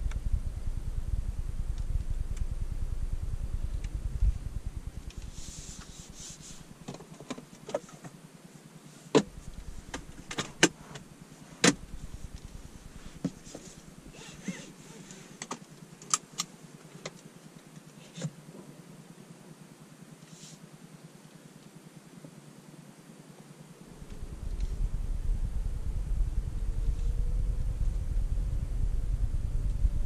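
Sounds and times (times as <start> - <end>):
soft hiss: 0.0 - 30.0.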